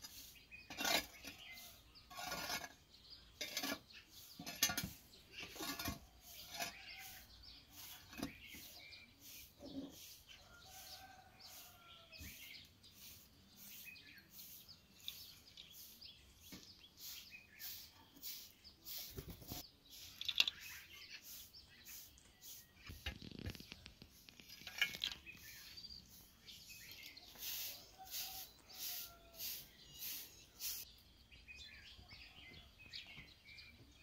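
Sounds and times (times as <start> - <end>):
ashes scraped with a scoop: 0.0 - 30.8.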